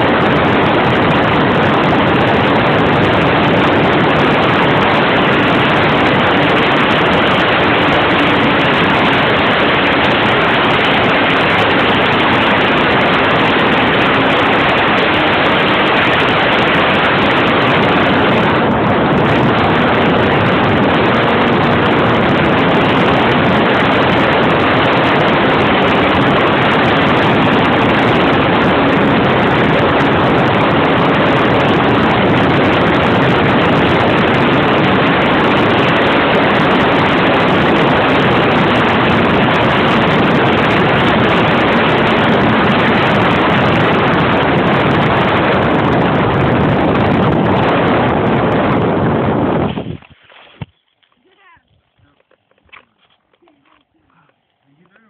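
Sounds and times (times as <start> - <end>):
model aircraft engine running: 0.0 - 48.6
wind rush on microphone: 0.0 - 55.0.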